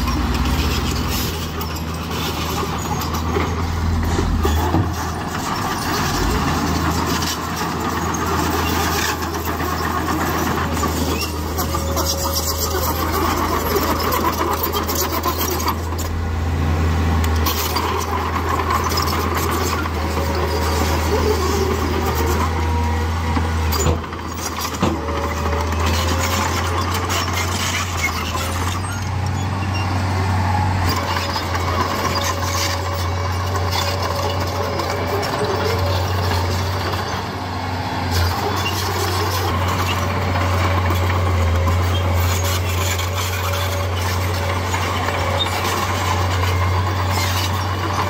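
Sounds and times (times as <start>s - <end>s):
heavy machinery diesel engine: 0.0s - 48.0s.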